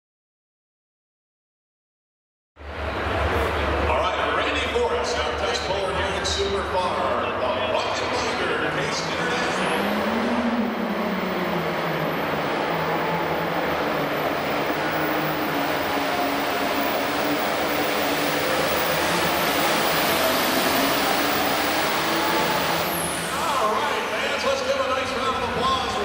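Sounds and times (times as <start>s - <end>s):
tractor diesel engine running: 2.6s - 26.0s.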